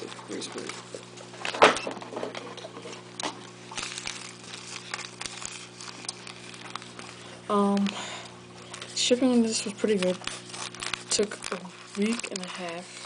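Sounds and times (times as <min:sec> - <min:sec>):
package rustling: 0:00.0 - 0:13.0.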